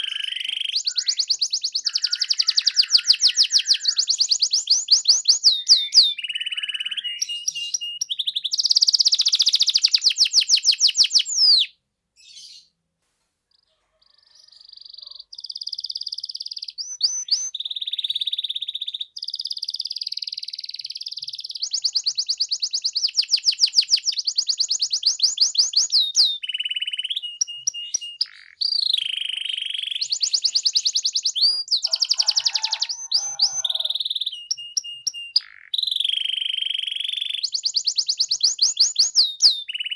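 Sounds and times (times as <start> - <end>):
canary singing trills: 0.0 - 12.8, 13.5 - 39.9.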